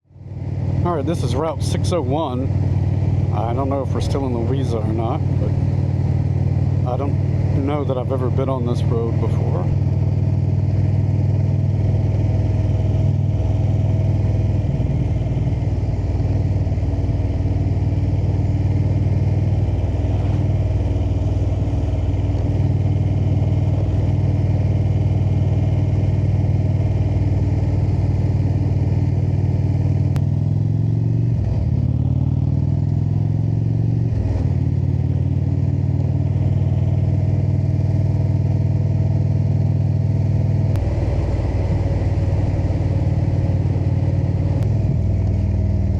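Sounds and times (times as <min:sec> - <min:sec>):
motorcycle engine running: 0:00.0 - 0:45.9
road and wind noise: 0:00.0 - 0:45.9.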